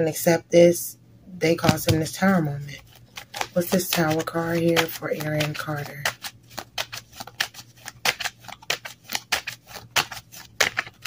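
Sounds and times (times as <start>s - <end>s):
cards being shuffled: 1.6s - 11.0s.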